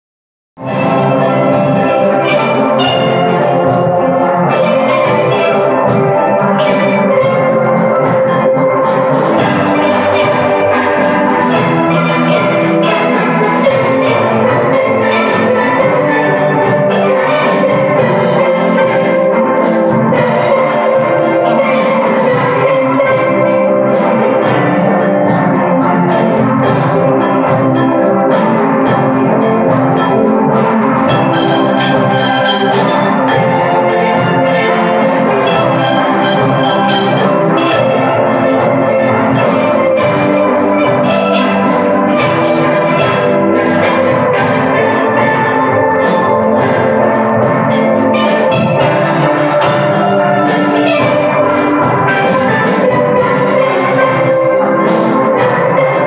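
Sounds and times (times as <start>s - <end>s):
drum kit: 0.6s - 56.0s
steel pans playing: 0.6s - 56.0s.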